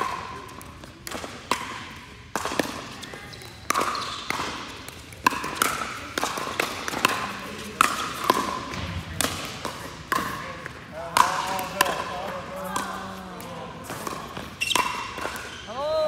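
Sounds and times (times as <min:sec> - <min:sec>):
pickleball hitting paddles: 0:00.0 - 0:15.7
ball bouncing on court: 0:00.0 - 0:15.9.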